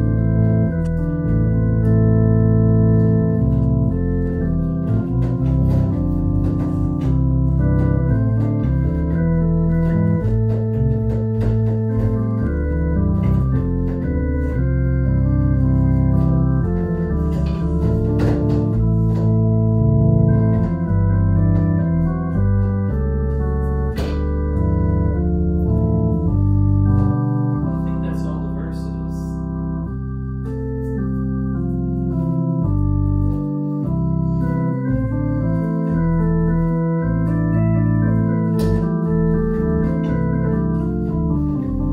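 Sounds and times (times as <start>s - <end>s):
organ playing a hymn: 0.0s - 41.9s.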